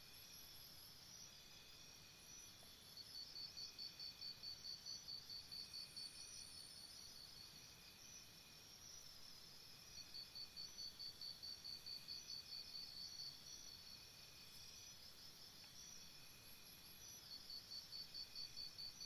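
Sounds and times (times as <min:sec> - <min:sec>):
low background hiss: 0:00.0 - 0:19.0
crickets chirping: 0:00.1 - 0:19.0.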